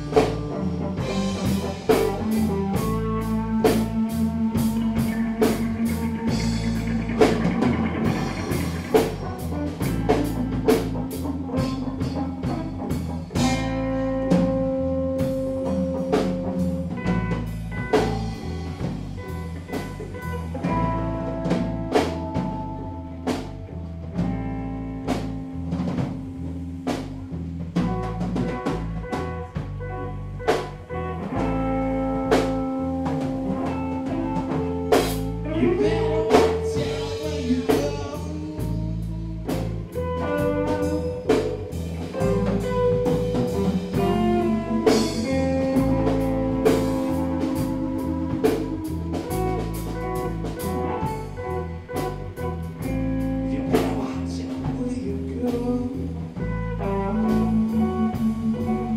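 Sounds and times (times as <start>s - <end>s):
bass guitar: 0.0s - 58.9s
drum kit: 0.0s - 58.9s
electric guitars: 0.0s - 58.9s.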